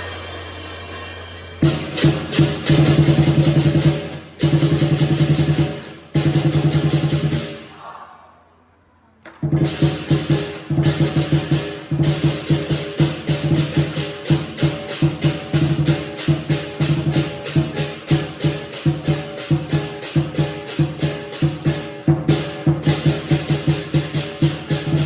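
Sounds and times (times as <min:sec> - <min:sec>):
cymbals clashing: 0:00.0 - 0:08.0, 0:09.6 - 0:25.0
large drum beaten quickly: 0:01.6 - 0:07.6, 0:09.5 - 0:25.0.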